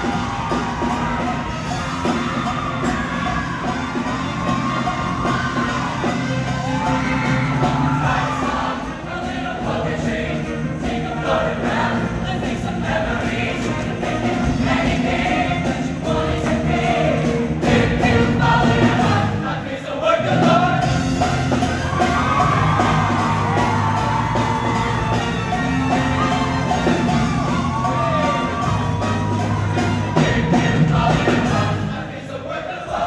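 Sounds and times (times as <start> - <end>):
choir singing with accompaniment: 0.0 - 33.0.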